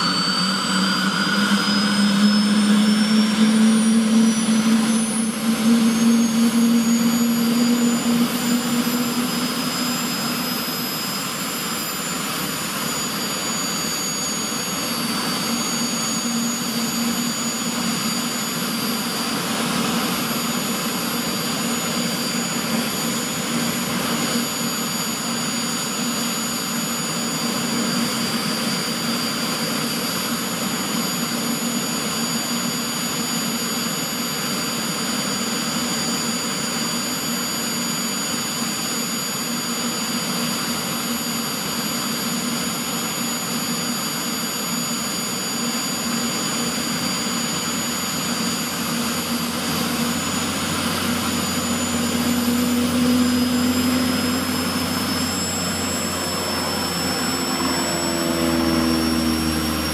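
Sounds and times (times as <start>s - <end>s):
helicopter turbine roar: 0.0s - 59.9s
high-pitched turbine whine: 0.0s - 59.9s.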